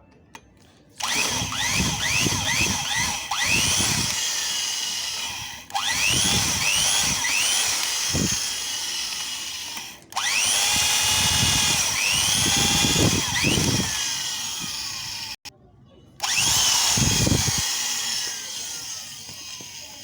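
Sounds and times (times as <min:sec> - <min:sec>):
electric drill whining: 0:01.0 - 0:15.5, 0:16.2 - 0:20.0.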